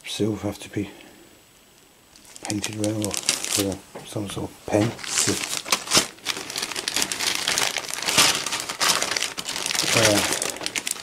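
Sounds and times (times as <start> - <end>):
plastic bags crinkling: 2.1 - 11.0.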